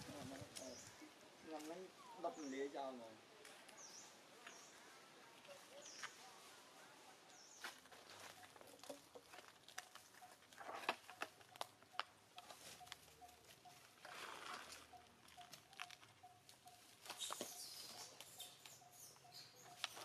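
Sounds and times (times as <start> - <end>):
dry leaves and twigs rustling: 3.4 - 20.0.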